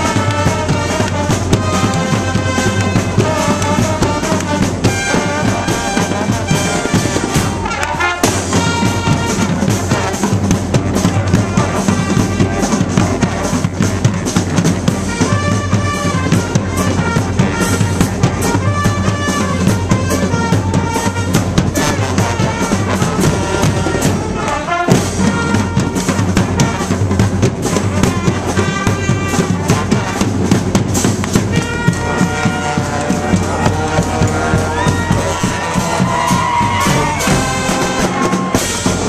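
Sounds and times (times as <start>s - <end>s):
bass drum and snare drums: 0.0s - 39.0s
brass band horns: 0.0s - 39.0s.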